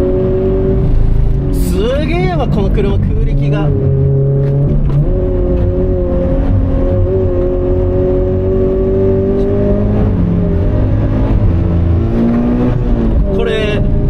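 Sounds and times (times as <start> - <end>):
car engine pulling under full throttle: 0.0 - 14.0.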